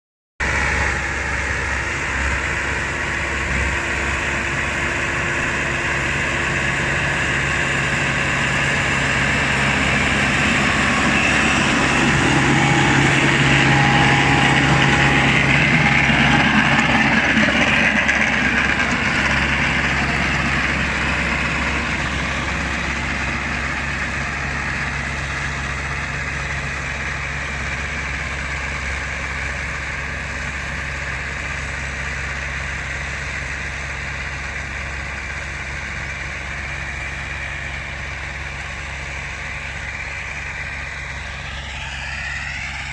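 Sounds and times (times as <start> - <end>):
tractor engine running: 0.4 - 42.9.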